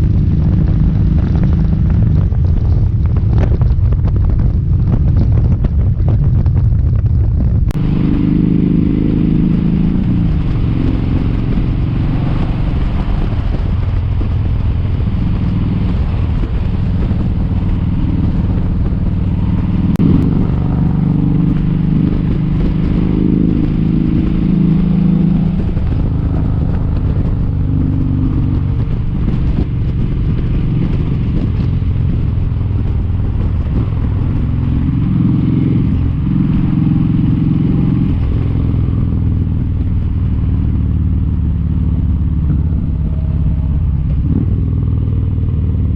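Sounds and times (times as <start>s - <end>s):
motorcycle engine at road speed: 0.0s - 45.9s
wind buffeting on microphone: 0.0s - 45.9s.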